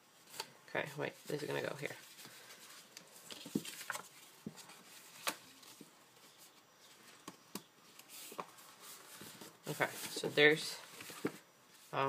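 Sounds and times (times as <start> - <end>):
paper rustling: 1.2 - 12.0.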